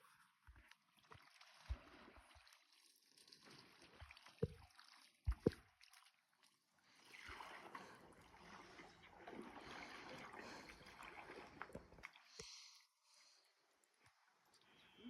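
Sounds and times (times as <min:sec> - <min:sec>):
water swishing and trickling: 0:00.0 - 0:15.0.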